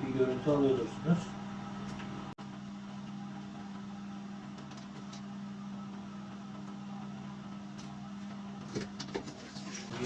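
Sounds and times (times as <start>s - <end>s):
egg incubator humming: 0.0s - 10.0s.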